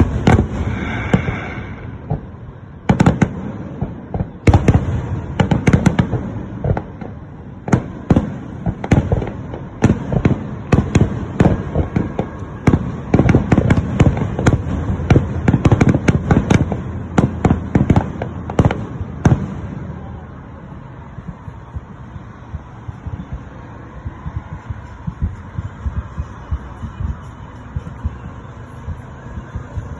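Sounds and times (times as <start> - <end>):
fireworks bursting with sharp bangs: 0.0 - 29.9.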